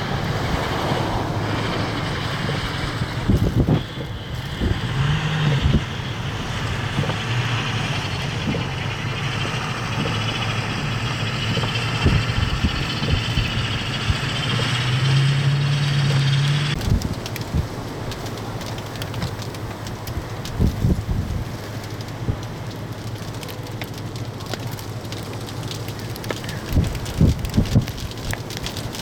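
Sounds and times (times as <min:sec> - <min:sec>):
road and tyre noise: 0:00.0 - 0:29.0
vehicle engine humming: 0:00.0 - 0:29.0.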